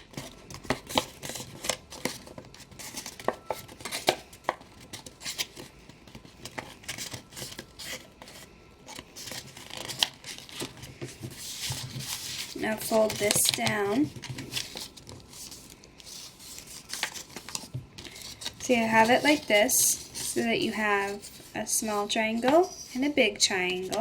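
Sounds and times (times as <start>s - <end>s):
paper crinkling and rustling: 0.0s - 24.0s.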